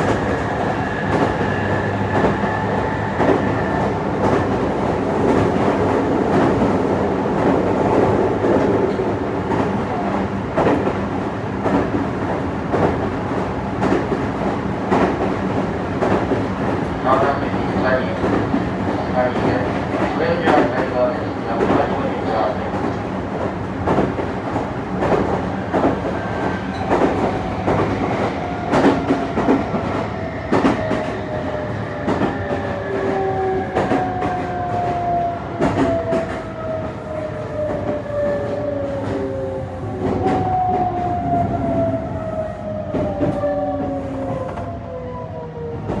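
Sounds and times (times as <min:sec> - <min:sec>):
train running gear rumble: 0:00.0 - 0:44.8.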